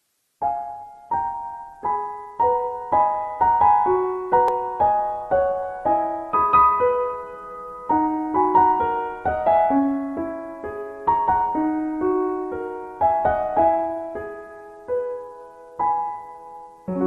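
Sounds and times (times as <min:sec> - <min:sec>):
piano chords: 0:00.4 - 0:17.0.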